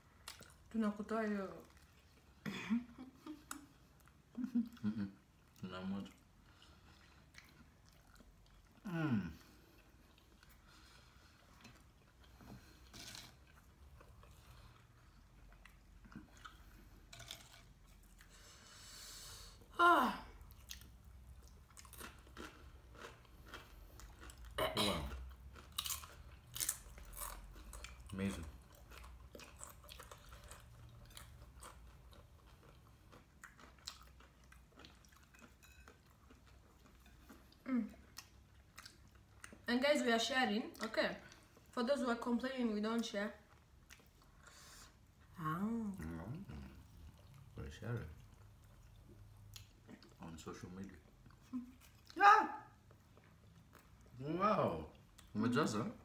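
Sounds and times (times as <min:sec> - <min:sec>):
faint chewing: 0:00.0 - 0:19.6, 0:20.4 - 0:39.7, 0:40.7 - 0:41.8, 0:42.9 - 0:54.2, 0:54.8 - 0:55.4.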